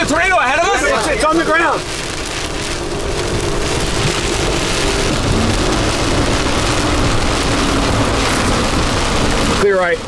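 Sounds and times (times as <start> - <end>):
heavy rain beating on vehicle: 0.0 - 10.0.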